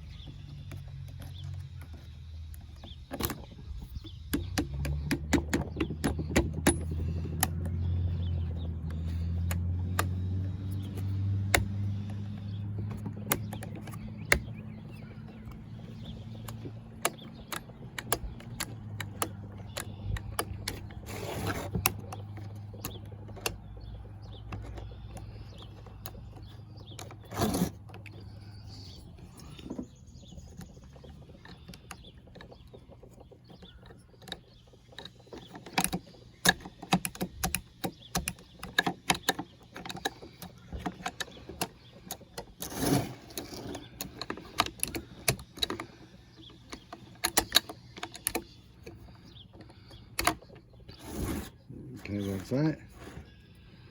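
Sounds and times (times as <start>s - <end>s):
small parts and tools clattering: 0.0s - 53.3s.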